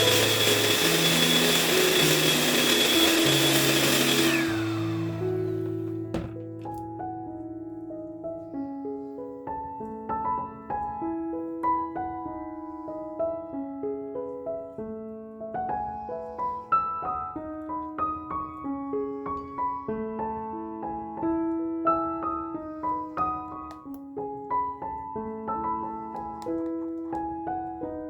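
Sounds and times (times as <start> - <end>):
gentle piano melody: 0.0 - 28.0.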